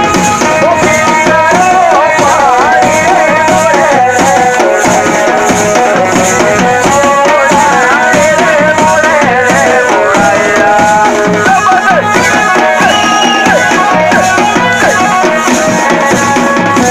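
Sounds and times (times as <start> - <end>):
folk drum rhythm: 0.0 - 16.9
rattling percussion: 0.0 - 16.9.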